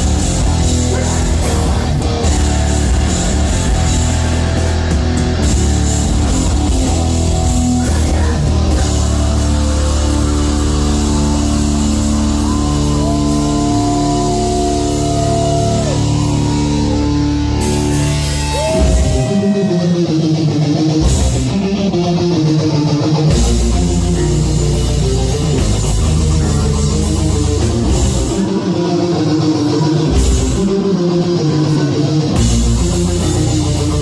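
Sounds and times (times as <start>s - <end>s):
heavy metal band playing: 0.0s - 34.0s.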